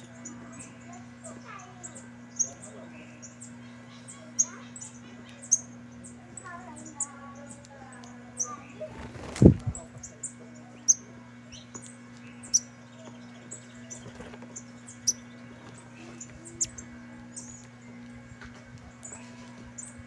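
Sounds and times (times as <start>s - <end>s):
finches chirping: 0.0s - 20.0s
low hum: 0.0s - 20.0s.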